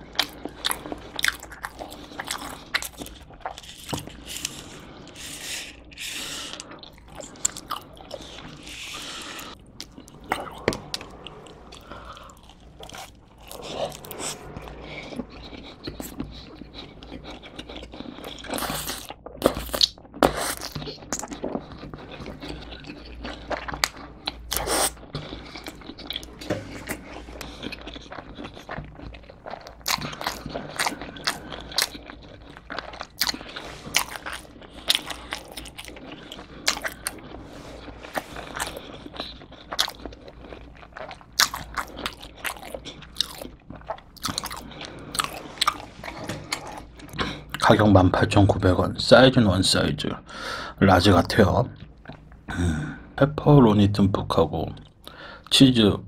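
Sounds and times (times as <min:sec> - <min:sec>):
crunchy crust chewing: 0:00.0 - 0:47.7.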